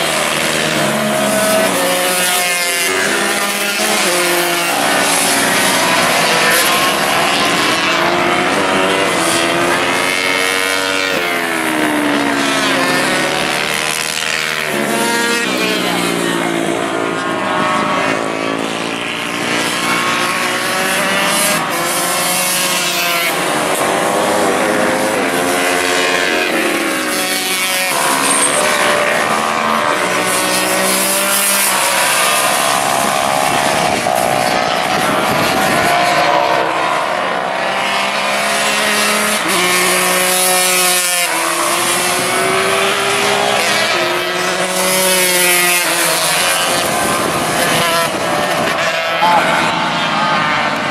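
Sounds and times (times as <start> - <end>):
racing motorcycles at high revs: 0.0 - 50.9.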